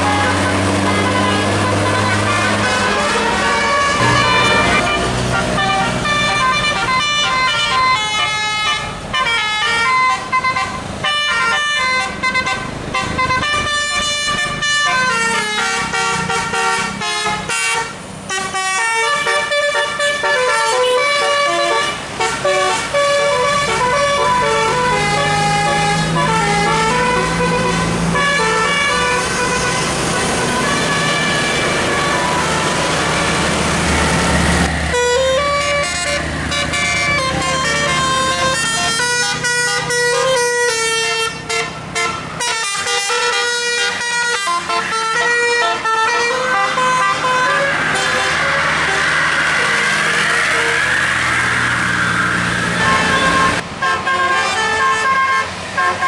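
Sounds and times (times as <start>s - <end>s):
bus engine running: 0.0s - 56.0s
musical air horn melody: 0.0s - 56.0s.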